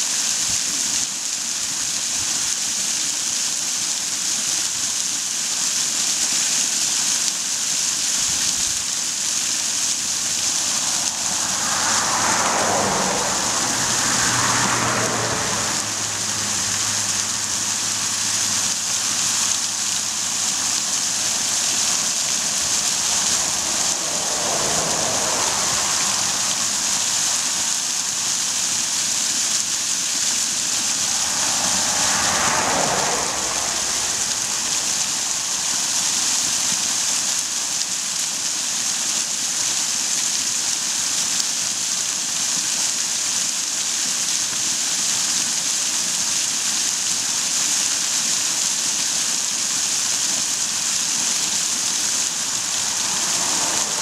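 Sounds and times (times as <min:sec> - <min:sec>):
waterfall splashing onto stones: 0:00.0 - 0:54.0
passing vehicle rush: 0:06.4 - 0:54.0.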